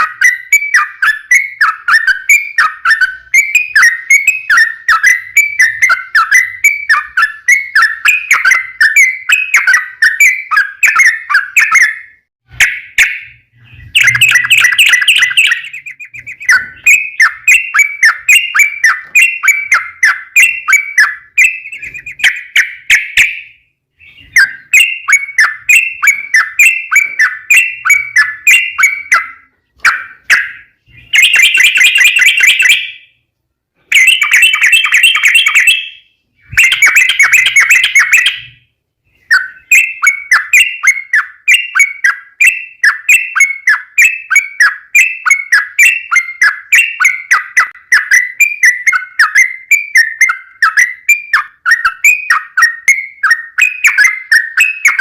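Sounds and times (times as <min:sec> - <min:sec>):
bird trilling: 0:00.0 - 0:33.2, 0:33.8 - 0:55.0
bird chirping: 0:00.0 - 0:55.0.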